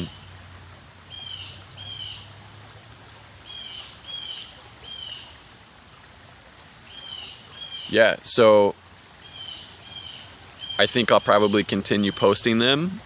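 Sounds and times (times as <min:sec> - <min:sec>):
songbird chirping: 0:00.0 - 0:05.5, 0:06.2 - 0:13.0
outdoor background noise: 0:00.0 - 0:13.0.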